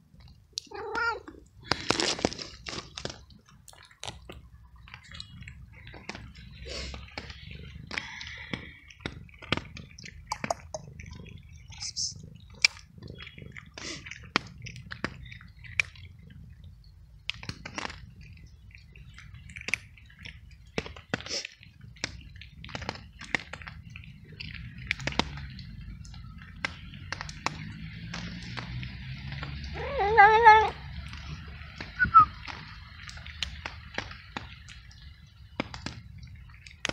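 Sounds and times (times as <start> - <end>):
cat crunching dry kibble: 0.1 - 34.9.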